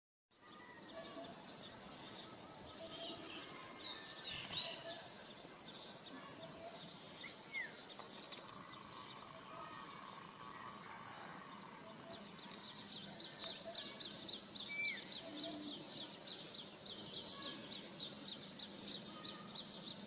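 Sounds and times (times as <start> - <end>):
birds chirping and whistling: 0.4 - 20.0
steady outdoor hiss: 0.4 - 20.0.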